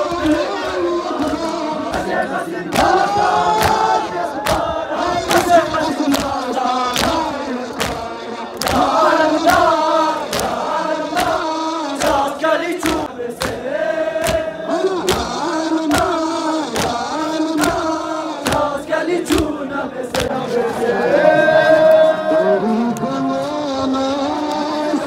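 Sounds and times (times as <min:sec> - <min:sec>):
men chanting in unison: 0:00.0 - 0:25.0
sharp regular beat: 0:00.2 - 0:20.3.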